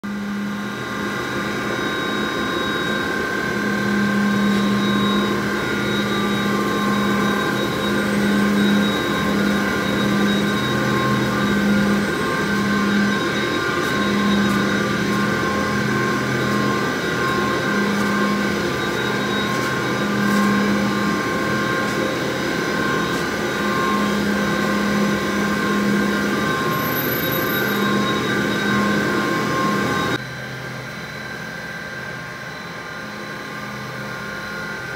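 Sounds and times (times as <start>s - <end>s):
machinery whine and hum: 0.0s - 34.9s.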